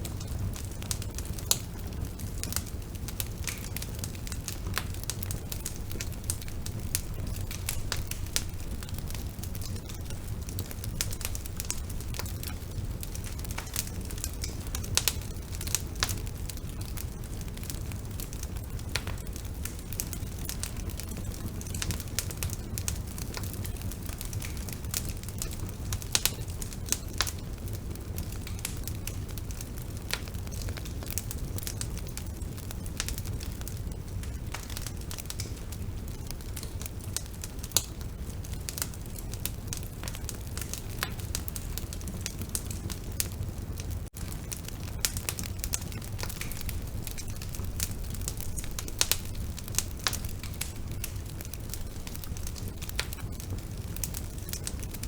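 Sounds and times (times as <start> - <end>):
bonfire burning with low rumble: 0.0 - 55.0
fire crackles and pops: 0.0 - 55.0.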